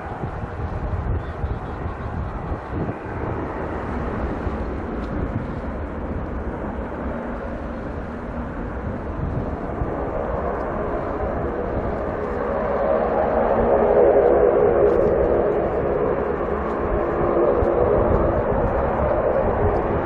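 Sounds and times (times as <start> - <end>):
turboprop engines running: 0.0 - 20.0.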